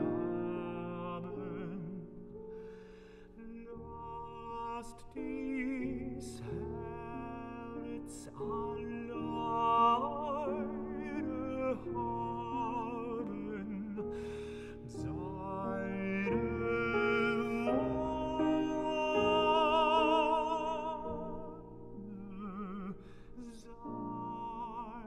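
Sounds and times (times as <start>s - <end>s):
piano accompaniment: 0.0s - 25.0s
tenor singing with vibrato: 3.4s - 25.0s.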